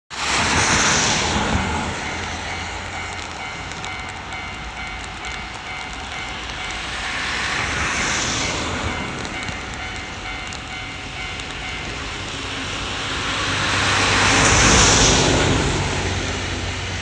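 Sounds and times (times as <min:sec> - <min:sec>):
rain hissing: 0:00.1 - 0:17.0
level-crossing warning bell: 0:00.2 - 0:17.0.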